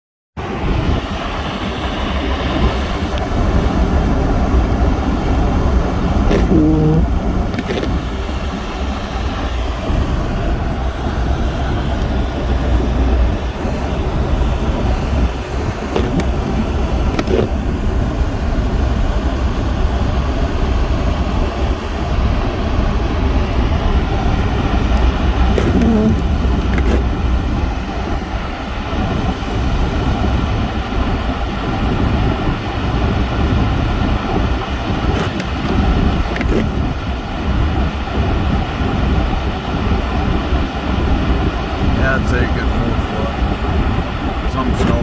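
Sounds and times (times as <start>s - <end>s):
vehicle engine and road rumble: 0.4s - 45.0s.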